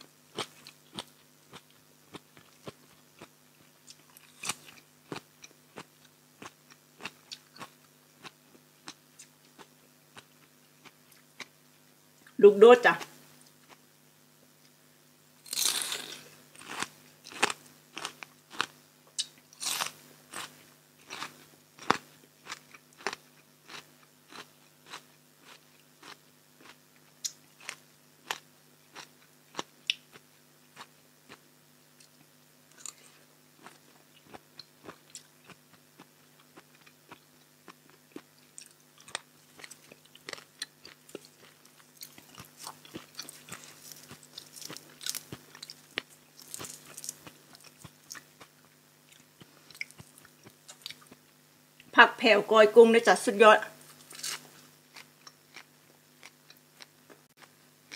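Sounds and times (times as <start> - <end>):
faint low hum: 0.0 - 57.9
crunching bites and chewing: 0.3 - 11.6, 15.4 - 51.4, 53.8 - 57.9.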